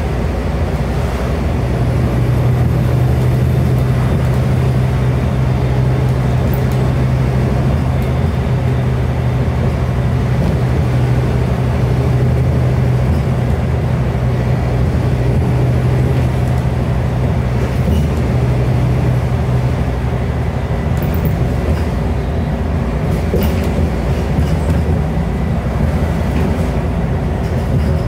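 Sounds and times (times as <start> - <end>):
bus diesel engine droning: 0.0 - 28.0
road and tyre rumble: 0.0 - 28.0.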